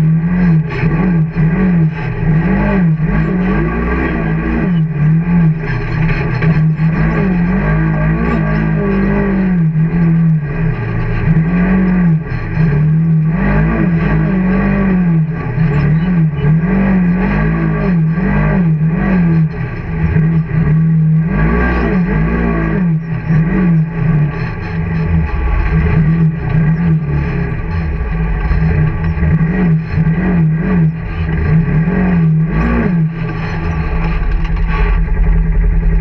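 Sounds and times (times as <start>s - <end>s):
off-road vehicle engine revving: 0.0s - 36.0s.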